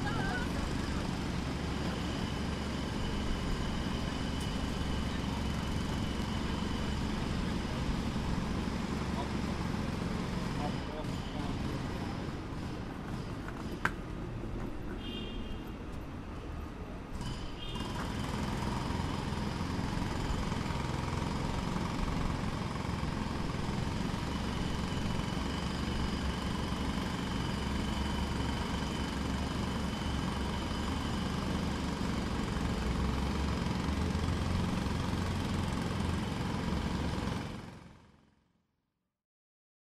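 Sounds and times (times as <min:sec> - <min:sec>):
distant jackhammer rattling: 0:00.0 - 0:14.0, 0:17.1 - 0:38.1.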